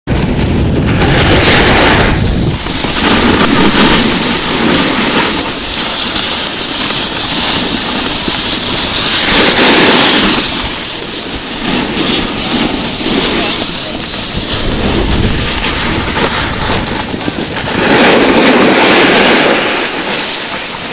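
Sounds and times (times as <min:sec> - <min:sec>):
snowboard scraping on snow: 0:00.1 - 0:20.9
wind buffeting microphone: 0:00.1 - 0:20.9.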